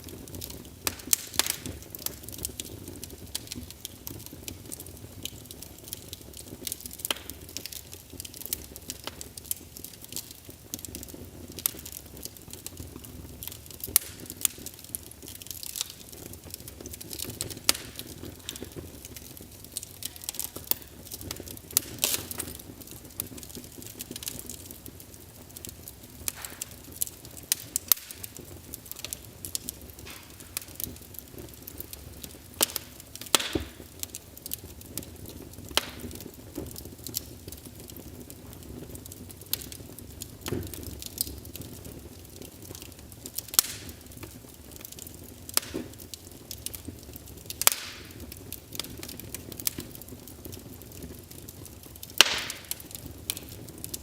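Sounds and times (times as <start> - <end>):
logs crackling and popping: 0.0 - 54.0
wood fire flames rushing: 0.0 - 54.0.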